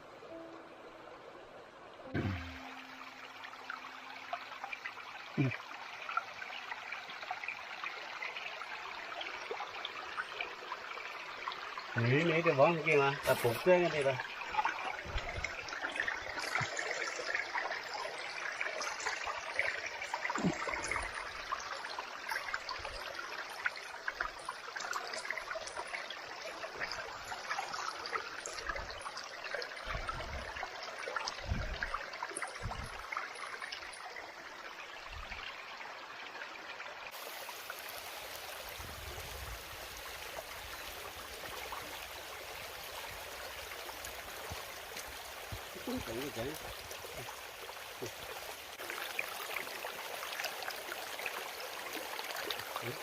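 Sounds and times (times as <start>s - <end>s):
stream trickling over rocks: 0.0s - 53.0s.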